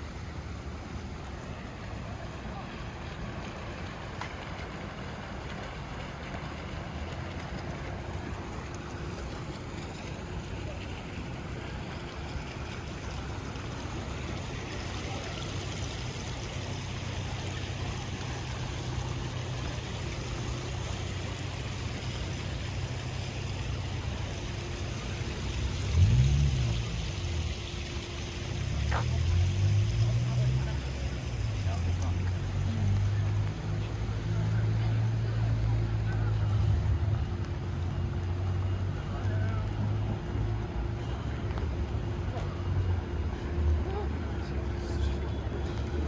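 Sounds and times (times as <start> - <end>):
rain hissing on wet ground: 0.0 - 46.0.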